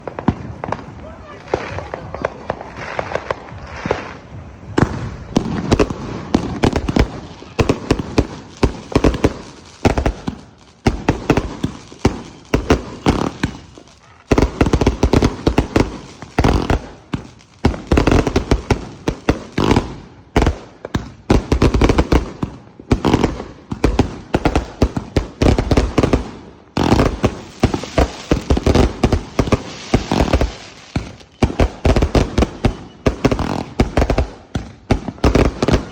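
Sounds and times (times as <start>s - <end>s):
firework cake firing shots: 0.0s - 35.9s.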